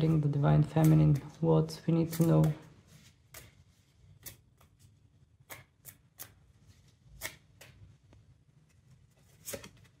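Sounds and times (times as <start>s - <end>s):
cards shuffling by hand: 0.0s - 10.0s.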